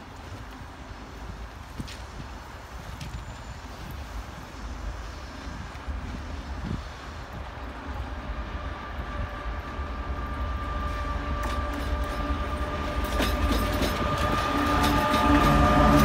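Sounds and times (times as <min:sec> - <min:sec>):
diesel locomotive engine whining: 0:00.1 - 0:16.0.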